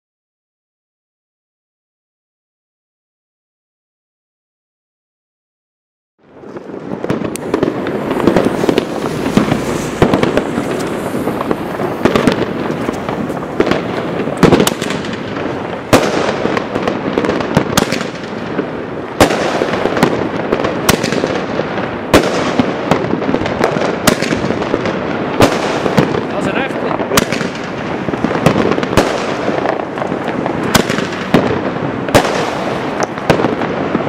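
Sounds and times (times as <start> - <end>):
firework bangs: 6.2 - 34.0
firework hissing: 6.4 - 34.0.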